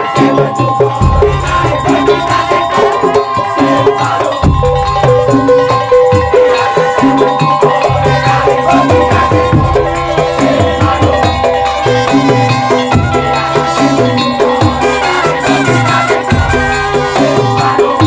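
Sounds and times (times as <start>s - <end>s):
loud drums: 0.0s - 18.0s
shaken and struck percussion: 0.0s - 18.0s.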